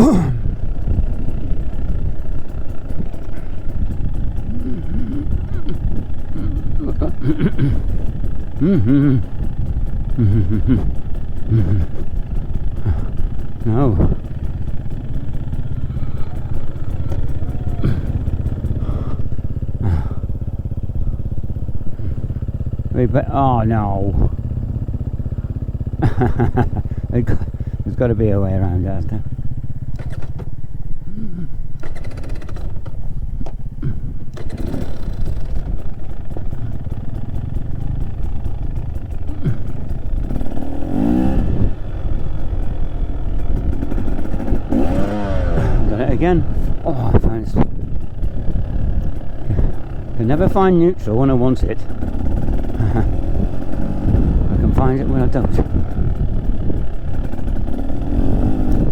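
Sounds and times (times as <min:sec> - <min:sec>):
motorcycle engine at low revs: 0:00.0 - 0:58.9.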